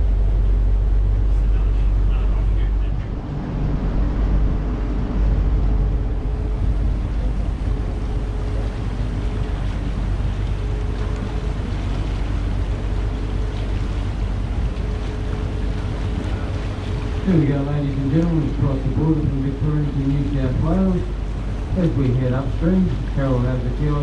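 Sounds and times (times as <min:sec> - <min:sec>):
faint steady hum: 0:00.0 - 0:24.0
steamer engine rumble: 0:00.0 - 0:24.0
water rushing past bow: 0:00.0 - 0:24.0.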